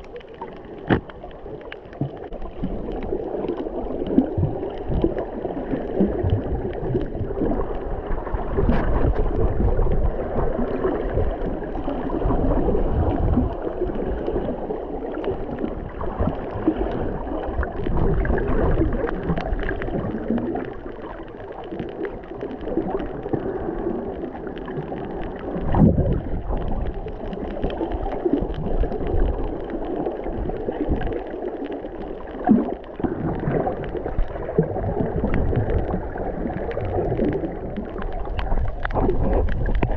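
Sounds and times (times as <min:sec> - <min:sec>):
underwater gurgling water: 0:00.0 - 0:39.9.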